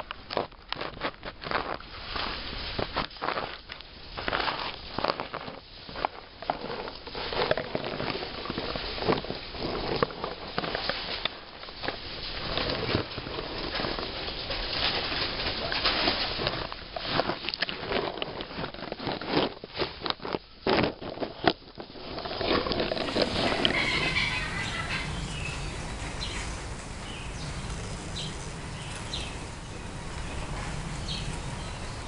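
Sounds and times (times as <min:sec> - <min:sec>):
crackling in dry leaves: 0:00.0 - 0:32.0.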